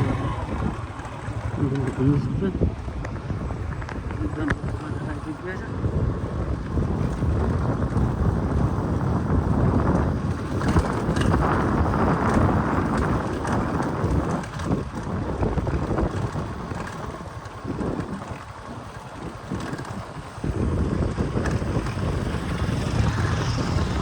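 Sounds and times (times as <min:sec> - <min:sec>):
vehicle rumble: 0:00.0 - 0:24.0
wind buffeting microphone: 0:00.0 - 0:24.0.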